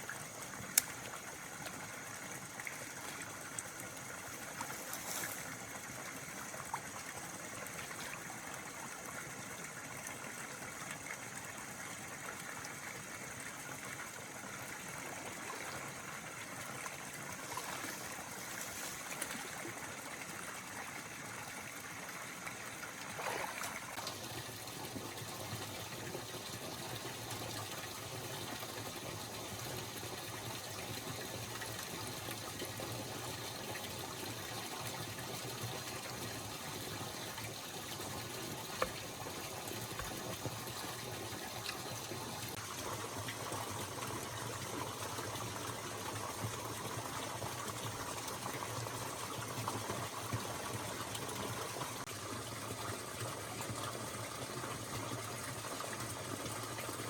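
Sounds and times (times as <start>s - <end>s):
water gushing: 0.0s - 57.0s.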